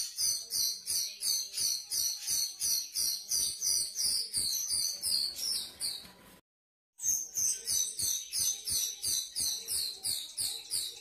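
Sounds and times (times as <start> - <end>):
bird chirping: 0.0 - 6.3, 7.0 - 11.0.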